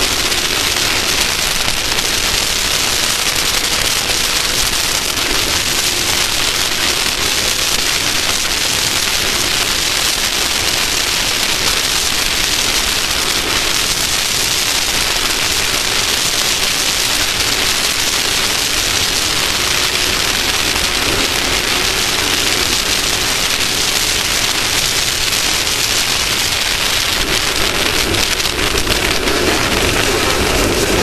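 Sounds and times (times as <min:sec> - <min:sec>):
engine: 0:00.0 - 0:31.0
loud rushing wind with crackle: 0:00.0 - 0:31.0.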